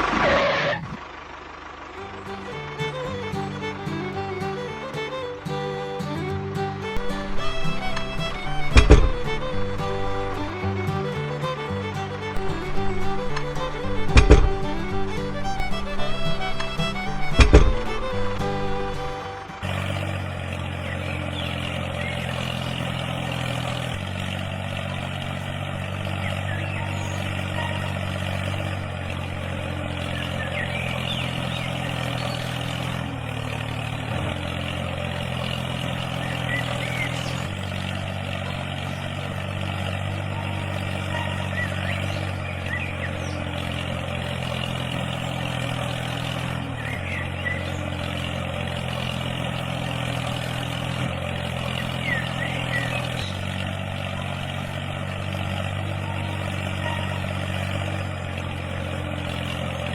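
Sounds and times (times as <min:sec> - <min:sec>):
engine running at idle: 0:00.0 - 0:59.9.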